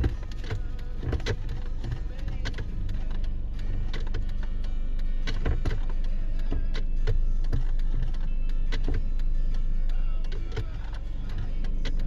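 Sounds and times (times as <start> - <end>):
car audio playing music: 0.0 - 12.0
engine idling: 0.0 - 12.0
steady low hum: 0.0 - 12.0.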